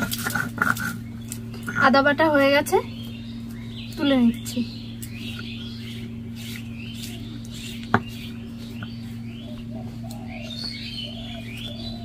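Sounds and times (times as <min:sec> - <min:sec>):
low hum: 0:00.0 - 0:12.0
small birds chirping: 0:00.0 - 0:12.0.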